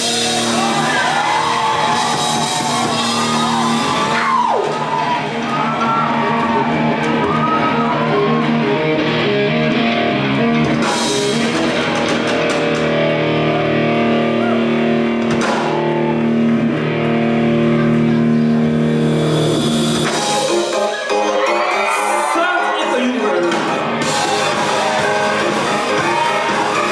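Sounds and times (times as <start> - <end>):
drum kit: 0.0 - 21.2, 23.4 - 26.9
electric guitar chords: 0.0 - 21.2, 23.2 - 26.9.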